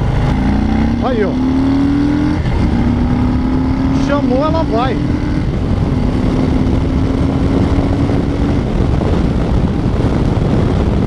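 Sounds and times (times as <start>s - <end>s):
heavy wind rush: 0.0s - 11.0s
motorcycle engine under throttle: 0.0s - 11.0s.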